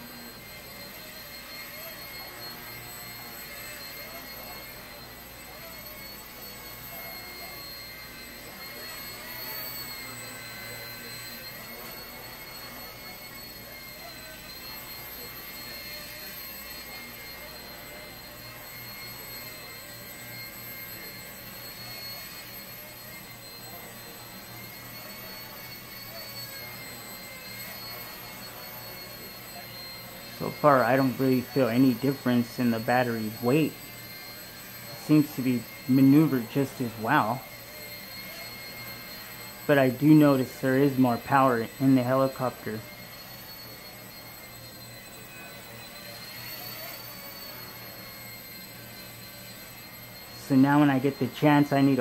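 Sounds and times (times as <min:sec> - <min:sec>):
small helicopter motor whine: 0:00.0 - 0:52.0.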